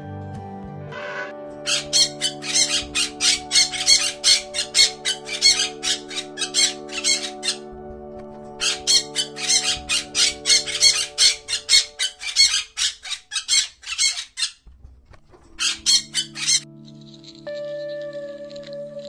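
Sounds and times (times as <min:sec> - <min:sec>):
background music with low notes: 0:00.0 - 0:13.6, 0:14.6 - 0:19.0
macaw squawking: 0:01.6 - 0:07.8, 0:08.5 - 0:14.7, 0:15.5 - 0:19.0.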